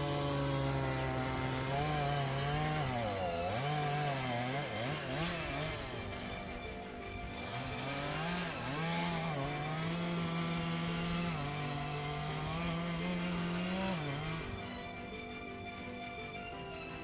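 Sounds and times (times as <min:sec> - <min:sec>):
chainsaw engine at high revs: 0:00.0 - 0:17.0.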